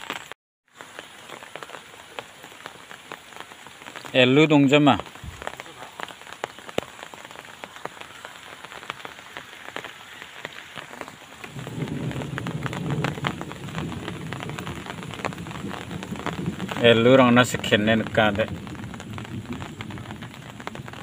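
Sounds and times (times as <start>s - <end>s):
rain falling on water and leaves: 0.0s - 21.0s.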